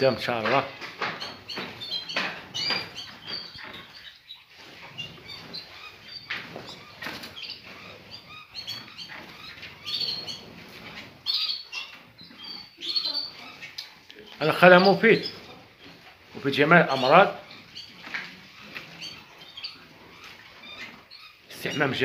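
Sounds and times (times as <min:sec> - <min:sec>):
songbirds chirping: 0:00.0 - 0:22.0
wing flutters: 0:00.0 - 0:22.0.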